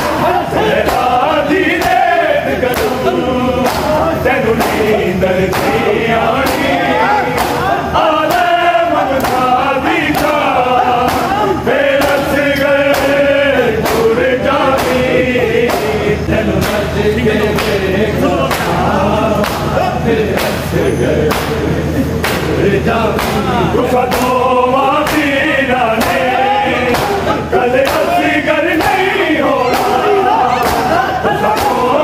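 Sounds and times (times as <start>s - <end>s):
men chanting a lament: 0.0s - 32.0s.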